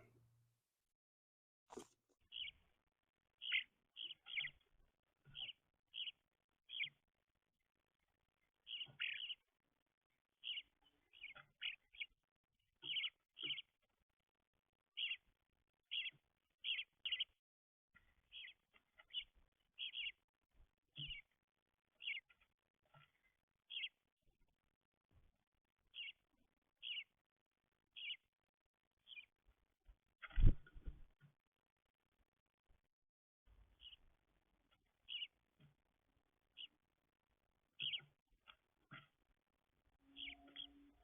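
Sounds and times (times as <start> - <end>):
songbirds chirping: 1.7 - 31.3, 33.5 - 41.0.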